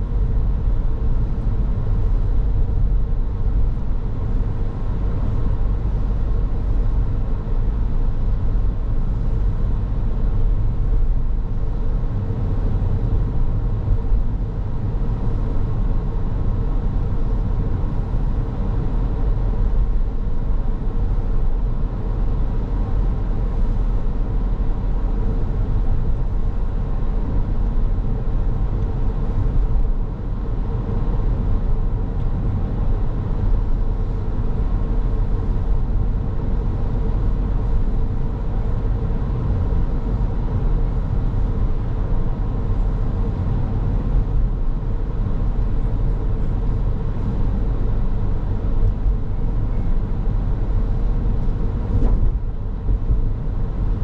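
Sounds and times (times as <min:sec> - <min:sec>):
car engine and tyre rumble: 0:00.0 - 0:54.0
faint steady hum: 0:00.0 - 0:54.0.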